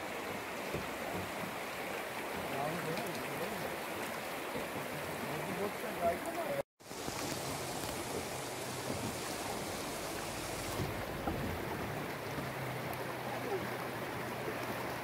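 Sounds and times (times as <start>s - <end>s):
choppy river water rushing: 0.0s - 15.0s.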